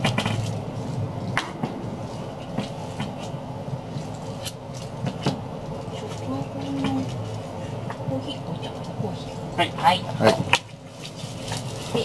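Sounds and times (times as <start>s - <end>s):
train car rumbling: 0.0s - 10.6s.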